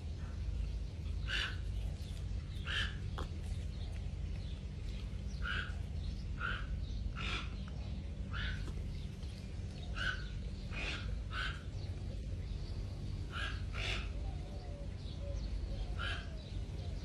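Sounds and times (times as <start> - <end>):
steady low rumble: 0.0 - 17.0
bird calling: 1.0 - 17.0.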